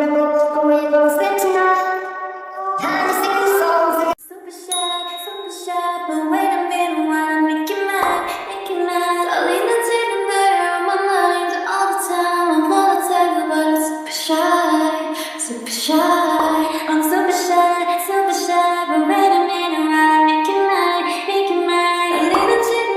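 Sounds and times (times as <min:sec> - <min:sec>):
woman singing: 0:00.0 - 0:22.9.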